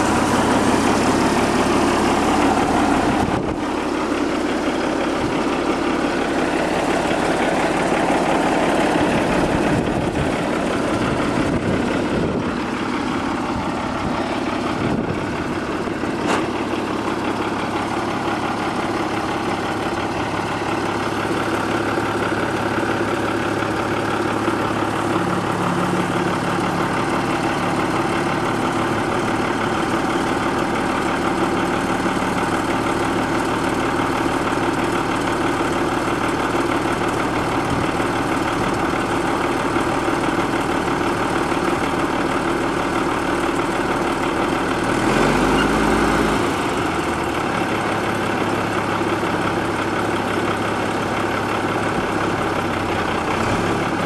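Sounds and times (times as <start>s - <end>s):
truck engine idling and revving: 0.0s - 54.0s.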